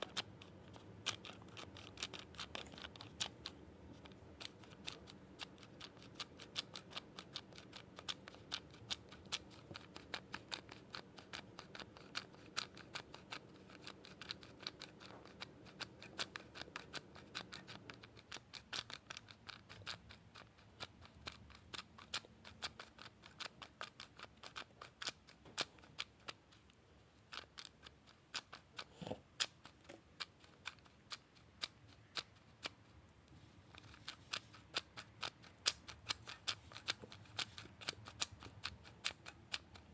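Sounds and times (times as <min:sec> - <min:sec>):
sharp rapid clicking: 0:00.0 - 0:33.0, 0:33.6 - 0:39.9.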